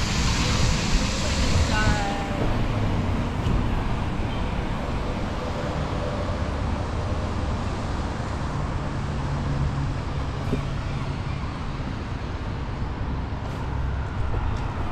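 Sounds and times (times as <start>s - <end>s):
passing vehicles on wet road: 0.0s - 14.9s.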